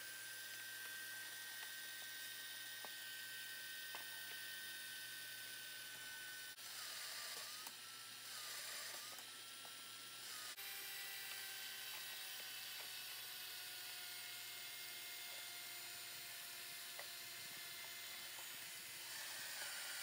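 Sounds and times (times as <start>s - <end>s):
drill press motor whining: 0.0s - 20.0s.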